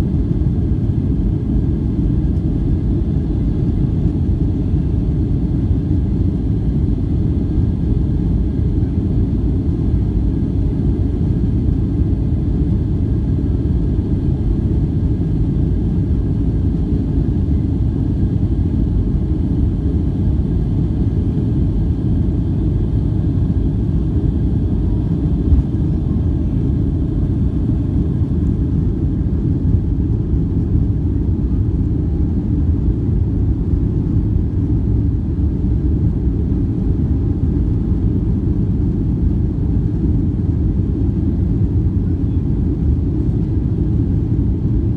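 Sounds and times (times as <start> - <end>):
airliner engines rumbling in cabin: 0.0 - 44.9.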